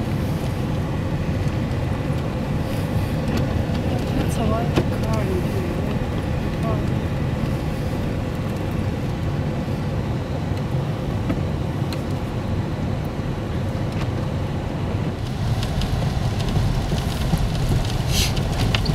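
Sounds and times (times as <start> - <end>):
engine and tyres rumbling: 0.0 - 18.9.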